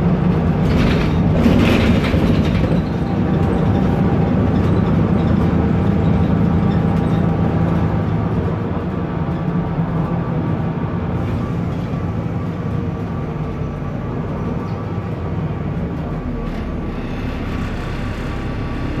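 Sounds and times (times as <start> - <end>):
bus engine droning: 0.0 - 19.0
road and tyre noise: 0.0 - 19.0.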